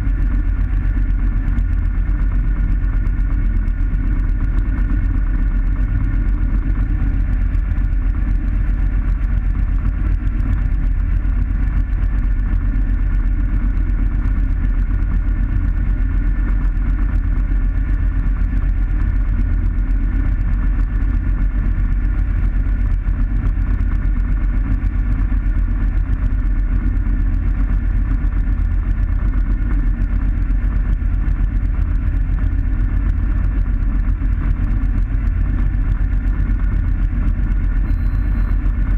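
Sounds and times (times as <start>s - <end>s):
propeller aircraft engine idling: 0.0s - 38.9s.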